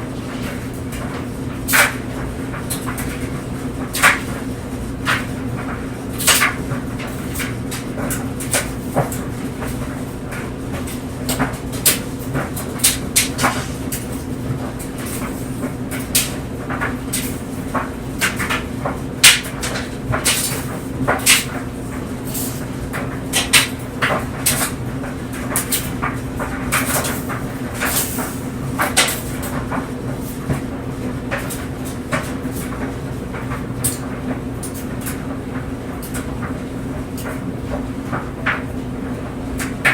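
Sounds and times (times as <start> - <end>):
clothes dryer hum: 0.0 - 39.9.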